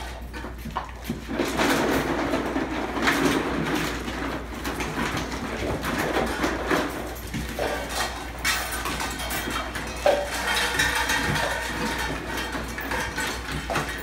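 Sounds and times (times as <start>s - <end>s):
puppies scuffling and scraping: 0.0s - 14.0s.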